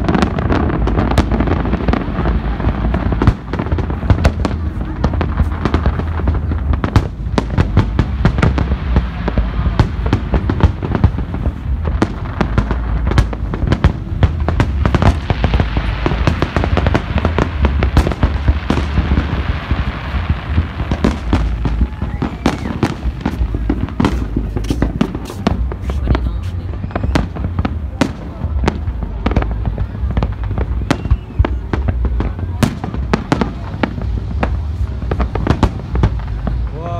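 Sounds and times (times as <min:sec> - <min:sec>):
fireworks bangs: 0:00.0 - 0:36.9
fireworks hissing: 0:00.0 - 0:36.9
low rumble: 0:00.0 - 0:36.9.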